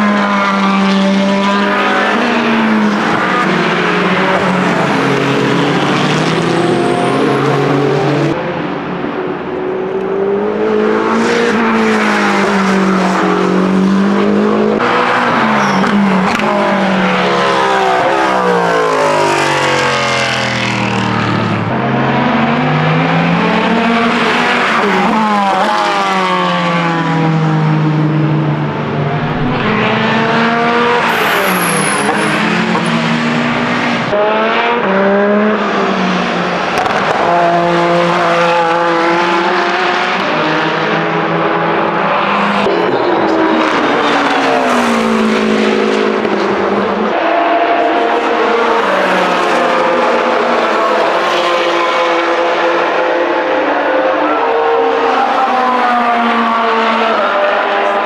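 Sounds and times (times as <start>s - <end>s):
race cars passing at speed: 0.0s - 58.0s.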